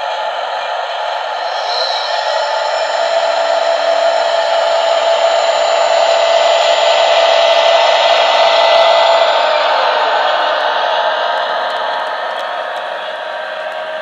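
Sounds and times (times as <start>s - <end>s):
high-speed train rushing whir: 0.0s - 14.0s.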